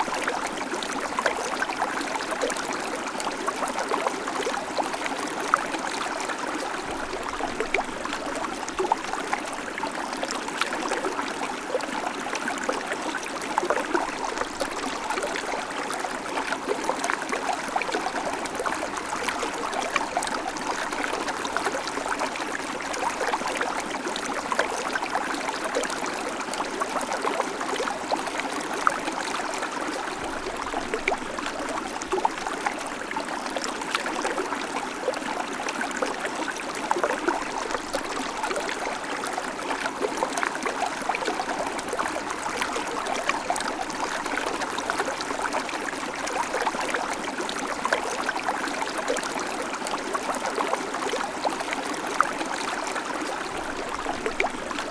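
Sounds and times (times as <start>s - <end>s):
creek water running over stones: 0.0s - 54.9s.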